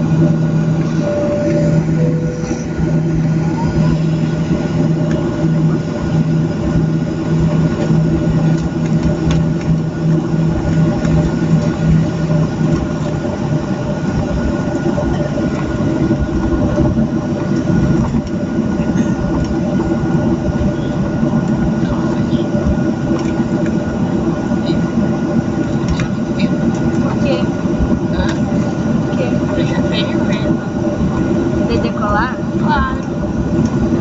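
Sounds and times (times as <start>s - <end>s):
jet engine hum: 0.0s - 34.0s
low rumble of wheels: 0.0s - 34.0s.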